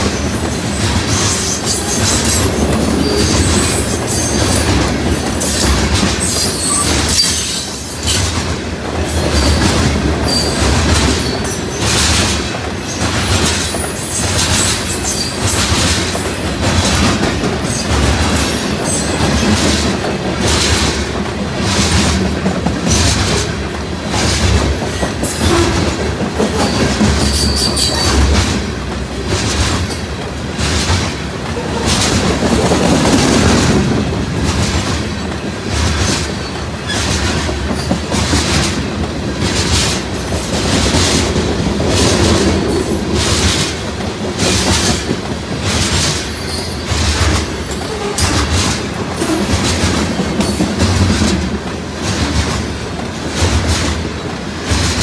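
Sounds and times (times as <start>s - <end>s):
low train rumble: 0.0s - 55.0s
train wheels clacking over rail joints: 0.0s - 55.0s.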